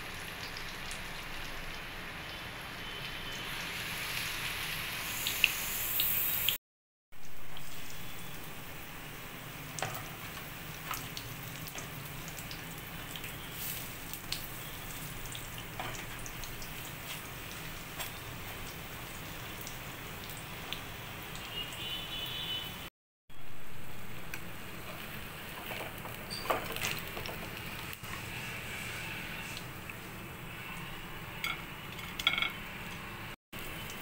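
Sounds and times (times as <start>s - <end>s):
oil sizzling with pops: 0.0s - 6.6s, 7.2s - 22.2s, 23.9s - 34.0s.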